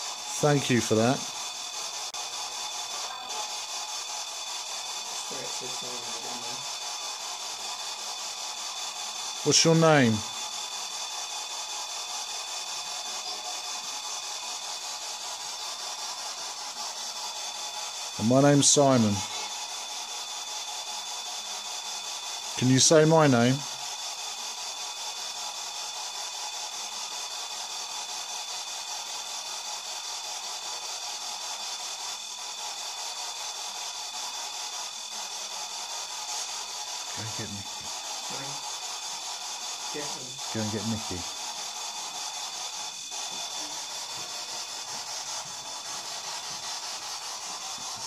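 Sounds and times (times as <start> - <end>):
room hiss: 0.0 - 48.0.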